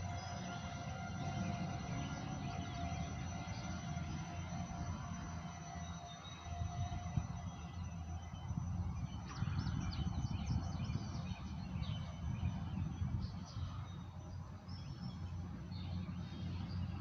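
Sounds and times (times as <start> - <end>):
birds chirping: 0.0 - 17.0
freight train rumbling: 0.0 - 17.0.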